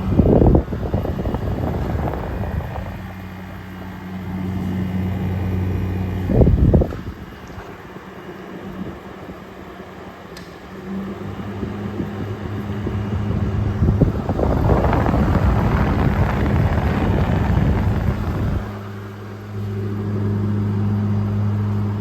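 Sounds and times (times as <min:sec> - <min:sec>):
air conditioner compressor hum: 0:00.0 - 0:22.0
fan air rush buffeting microphone: 0:00.0 - 0:22.0.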